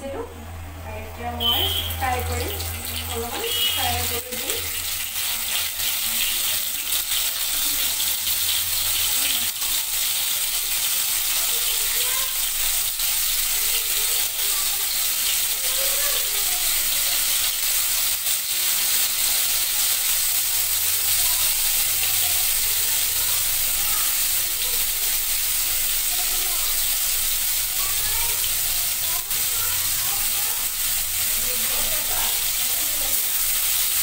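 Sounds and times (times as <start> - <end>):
cheese cubes sizzling in oil: 1.2 - 34.0.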